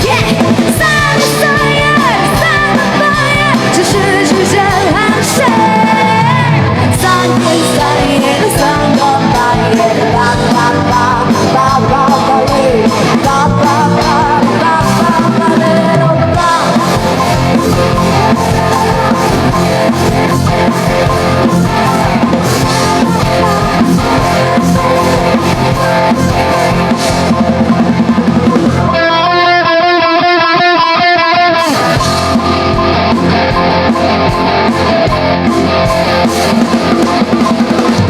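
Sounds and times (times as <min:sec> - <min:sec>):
drum kit: 0:00.0 - 0:30.0, 0:31.4 - 0:38.0
electric guitar: 0:00.0 - 0:38.0.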